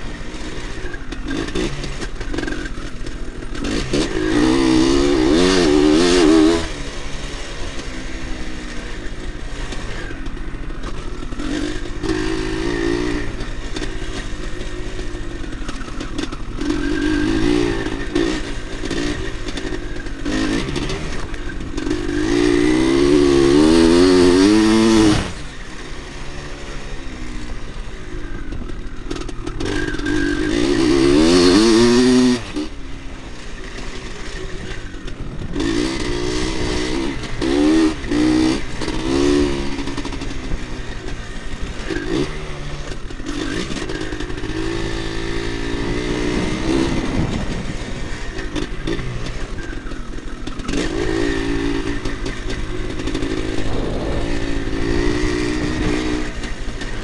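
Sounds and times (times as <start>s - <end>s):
two-stroke motocross engine revving: 0.0s - 57.0s.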